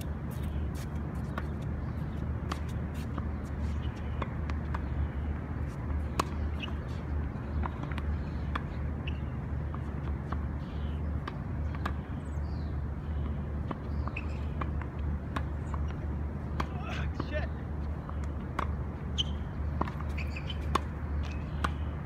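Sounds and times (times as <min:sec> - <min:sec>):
tennis ball bounces: 0:00.3 - 0:12.1, 0:13.1 - 0:17.4, 0:18.0 - 0:21.9.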